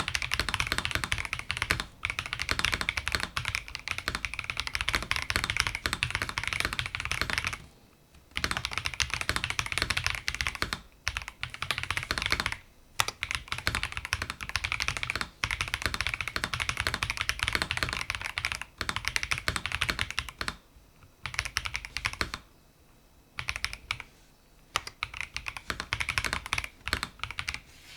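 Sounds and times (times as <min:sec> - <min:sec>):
fast mechanical keyboard typing: 0:00.0 - 0:07.6, 0:08.3 - 0:20.6, 0:21.2 - 0:22.4, 0:23.4 - 0:24.1, 0:24.8 - 0:27.6.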